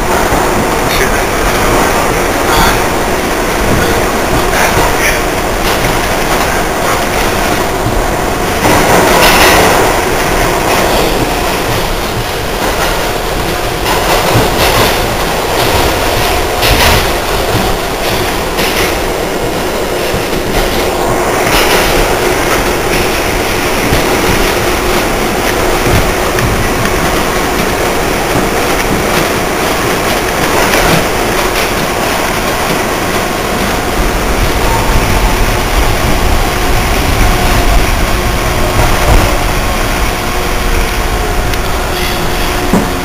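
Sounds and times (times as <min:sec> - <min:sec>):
subway train rail rumble: 0:00.0 - 0:43.0
wheels clacking over rail joints: 0:00.0 - 0:43.0.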